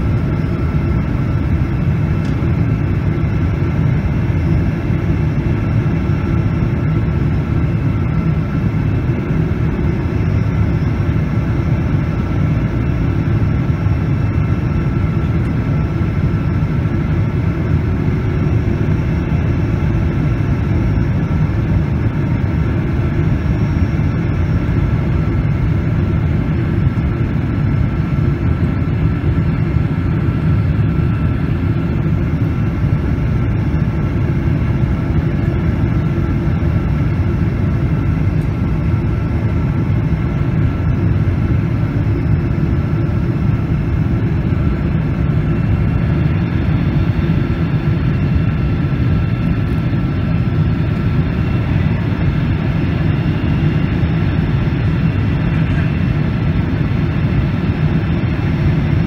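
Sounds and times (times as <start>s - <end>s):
airplane cabin drone: 0.0s - 59.0s
faint steady whine: 0.0s - 59.0s.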